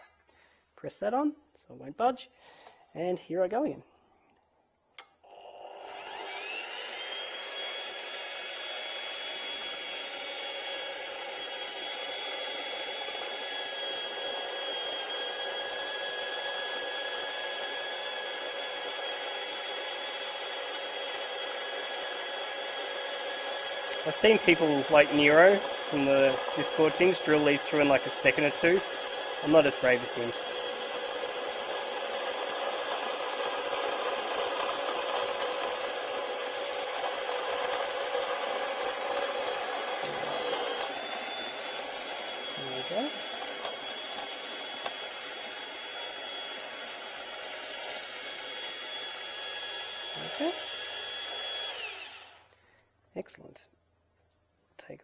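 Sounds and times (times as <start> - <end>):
electric drill whining: 5.1 - 52.7.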